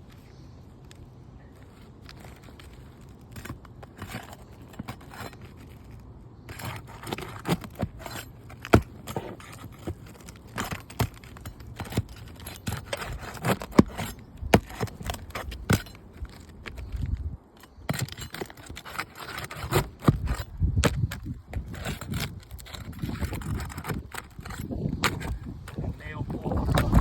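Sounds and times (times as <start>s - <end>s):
scraping with sharp clicks: 0.0s - 27.0s
roof shingles being pried loose: 1.6s - 27.0s.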